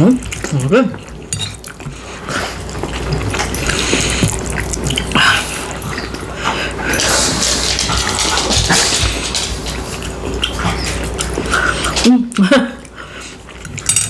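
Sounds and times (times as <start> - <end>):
wet chewing and lip-smacking: 0.0 - 13.9.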